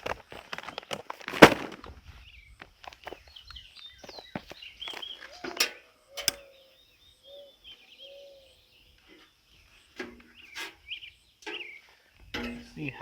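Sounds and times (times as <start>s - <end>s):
small birds chirping: 2.0s - 13.0s.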